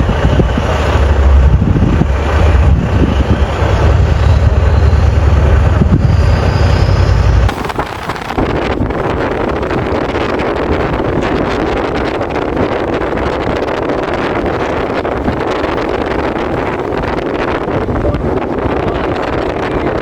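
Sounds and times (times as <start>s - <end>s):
vehicle rumble: 0.0s - 20.0s
wind buffeting microphone: 0.0s - 20.0s.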